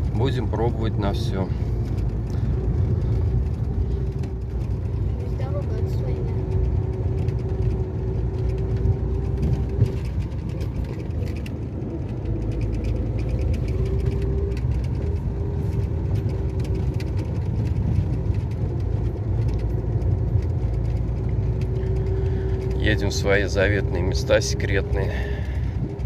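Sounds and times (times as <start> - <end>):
engine and tyres rumbling: 0.0 - 26.0
rattles and knocks in car: 0.0 - 26.0.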